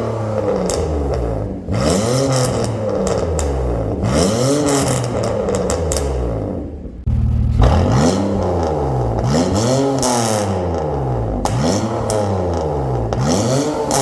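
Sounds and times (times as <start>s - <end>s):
car engine rev blips: 0.0s - 14.0s.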